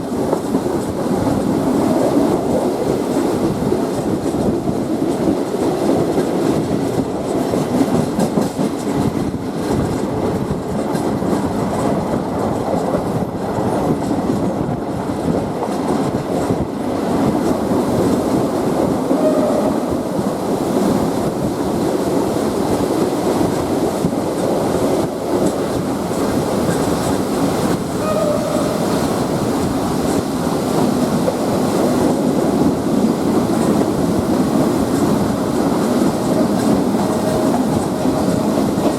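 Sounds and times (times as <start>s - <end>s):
train wheels clickety-clack: 0.0s - 38.9s.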